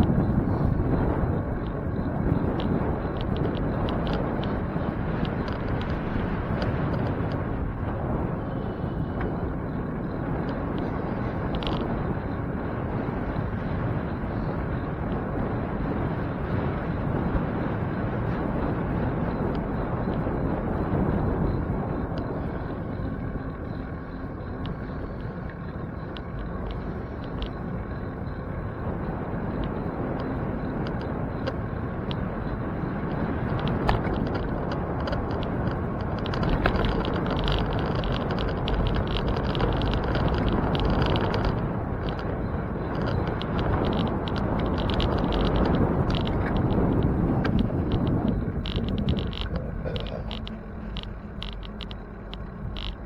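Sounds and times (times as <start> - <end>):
light ticks: 0.0 - 7.6, 8.4 - 53.0
bicycle road noise: 0.0 - 53.0
wind rumbling on microphone: 0.0 - 53.0.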